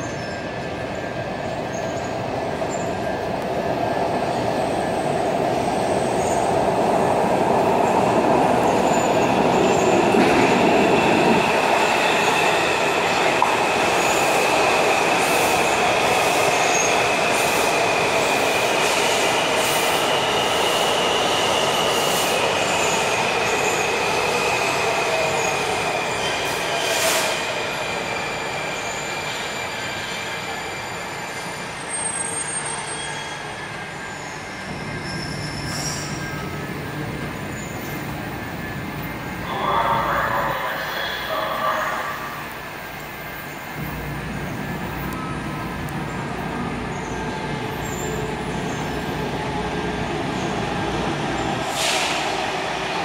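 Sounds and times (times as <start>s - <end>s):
high train whine: 0.0s - 53.0s.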